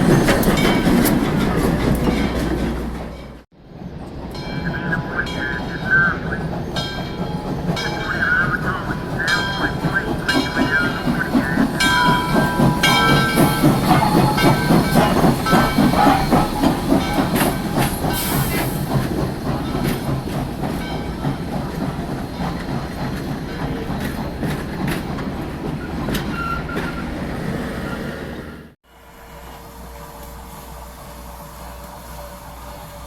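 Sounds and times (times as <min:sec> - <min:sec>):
train cars clattering over rail joints: 0:00.0 - 0:03.4, 0:04.4 - 0:28.0.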